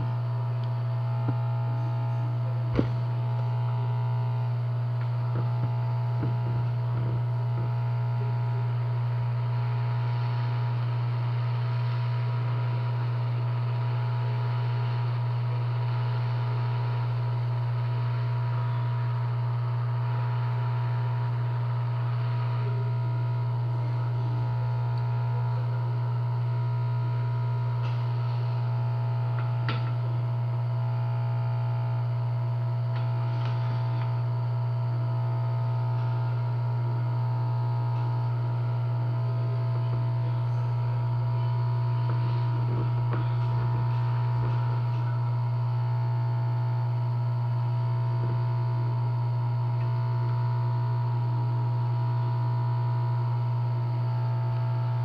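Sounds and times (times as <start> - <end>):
hot air blower humming: 0.0 - 55.0.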